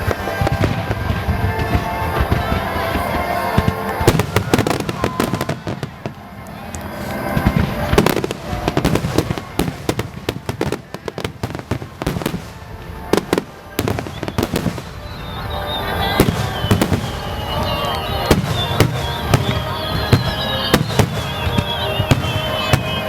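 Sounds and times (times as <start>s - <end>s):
fireworks bangs and crackles: 0.0s - 23.0s
heavy fireworks booms: 0.0s - 23.0s.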